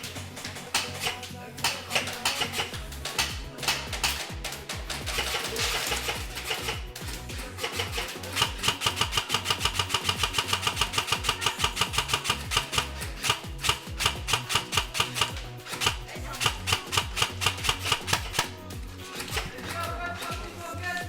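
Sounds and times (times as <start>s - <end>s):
sharp percussive clicks: 0.0s - 20.5s
stepping bass line: 2.6s - 21.0s.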